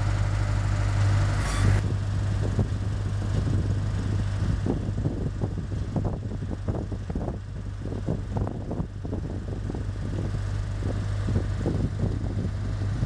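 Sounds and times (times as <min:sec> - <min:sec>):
tractor diesel engine running: 0:00.0 - 0:13.0
wind buffeting microphone: 0:01.6 - 0:13.0.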